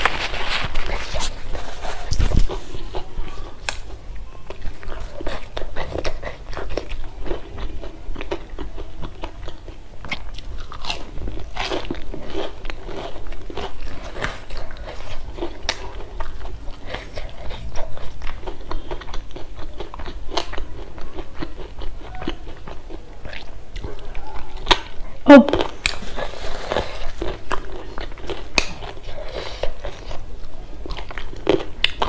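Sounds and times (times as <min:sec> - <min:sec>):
chewing and crunching fritters: 0:00.0 - 0:32.0.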